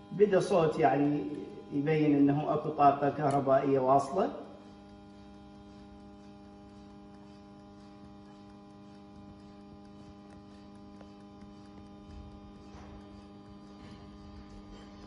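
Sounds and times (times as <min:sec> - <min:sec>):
electric kettle humming: 0:00.0 - 0:15.0.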